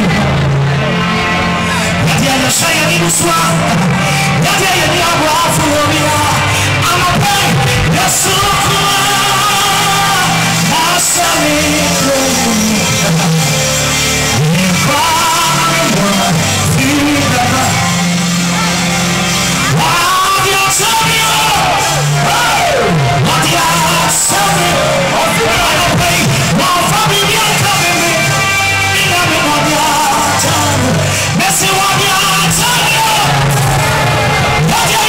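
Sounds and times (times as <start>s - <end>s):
man singing amplified: 0.0s - 35.0s.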